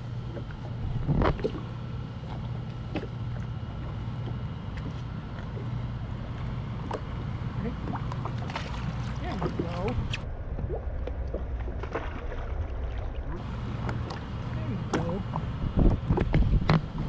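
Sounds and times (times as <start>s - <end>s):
watercraft engine idling: 0.0s - 11.9s, 12.8s - 17.0s
water lapping: 0.0s - 17.0s.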